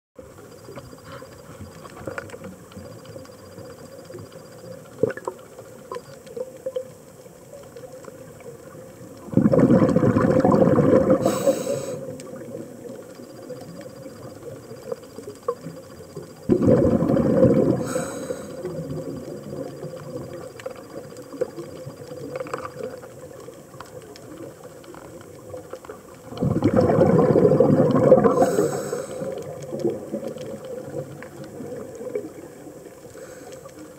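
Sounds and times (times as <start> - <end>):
faint clicks: 0.3 - 9.9, 11.2 - 27.0, 27.8 - 33.9
exhaled bubbles underwater: 4.1 - 33.9.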